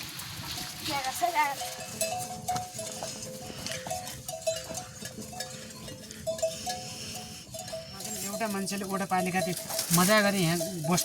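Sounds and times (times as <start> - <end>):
metal bells clanking: 0.4 - 11.0.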